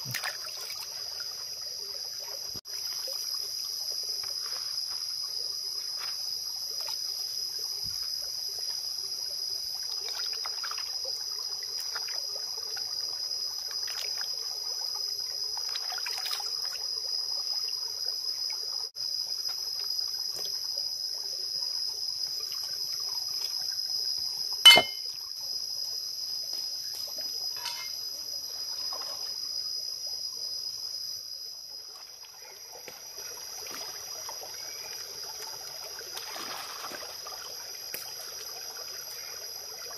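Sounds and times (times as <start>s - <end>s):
jungle insects droning: 0.0s - 39.9s.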